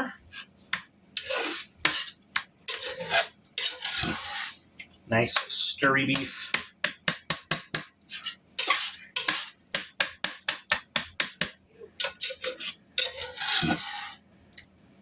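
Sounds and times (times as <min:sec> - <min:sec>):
utensil scraping cast iron skillet: 0:00.0 - 0:14.2.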